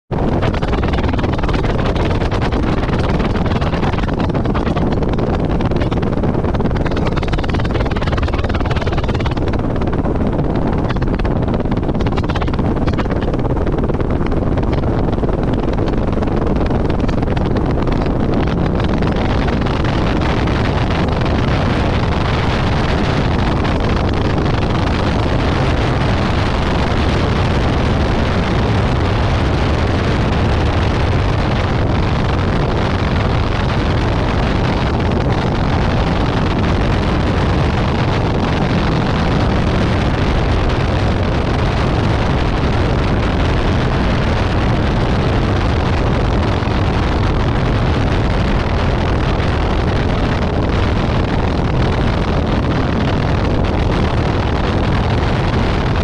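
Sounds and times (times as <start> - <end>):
propeller plane engine running: 0.0 - 56.0
wind on microphone: 0.0 - 56.0.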